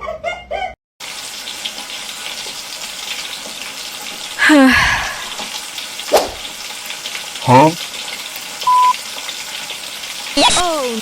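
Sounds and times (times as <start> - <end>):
steady running water hiss: 1.0 - 11.0.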